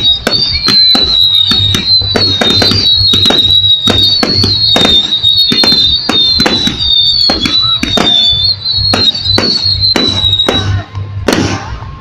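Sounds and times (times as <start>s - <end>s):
fireworks bangs and crackles: 0.0s - 12.0s
high wavering whistle: 0.0s - 12.0s.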